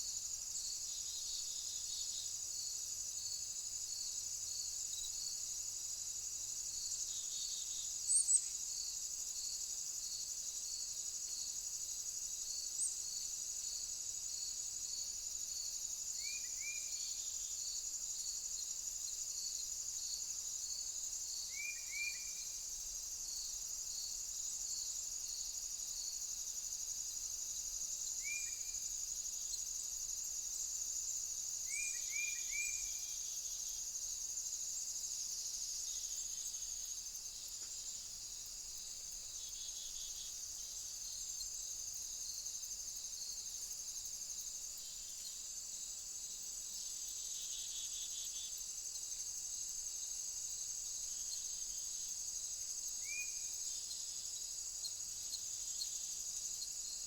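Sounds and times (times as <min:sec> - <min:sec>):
cricket chirping: 0:00.0 - 0:57.0
high-pitched insect chorus: 0:00.0 - 0:57.0.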